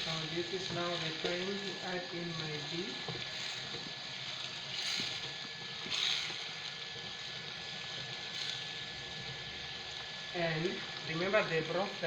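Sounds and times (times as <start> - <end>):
stew sizzling and bubbling: 0.0 - 12.0.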